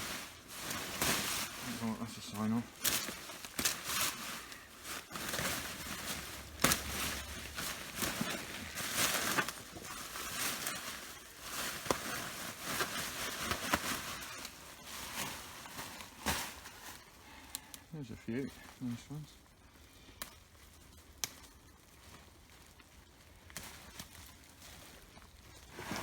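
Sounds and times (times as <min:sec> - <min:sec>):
soil crackling and rustling: 0:00.0 - 0:26.0.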